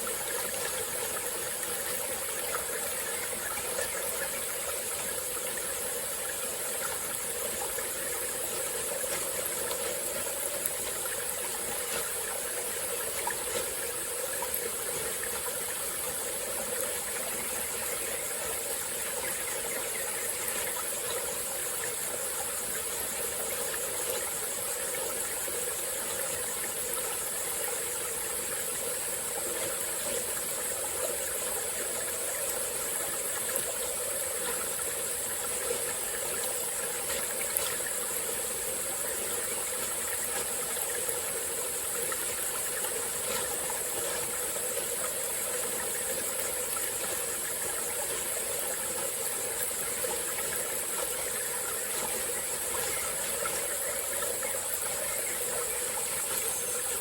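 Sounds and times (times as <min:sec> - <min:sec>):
high-pitched insect chorus: 0:00.0 - 0:57.0
small water splashes: 0:00.0 - 0:57.0
stream babbling: 0:00.0 - 0:57.0.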